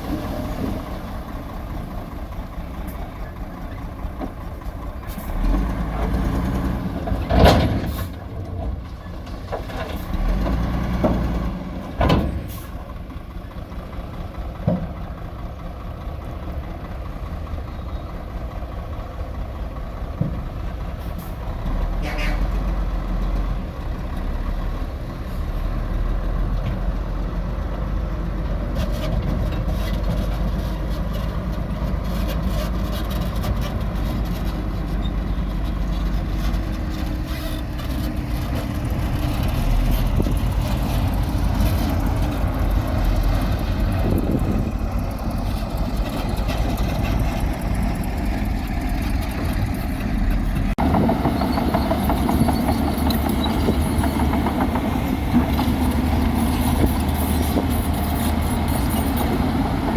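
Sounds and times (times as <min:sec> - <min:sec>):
diesel machinery rumbling: 0:00.0 - 0:59.9.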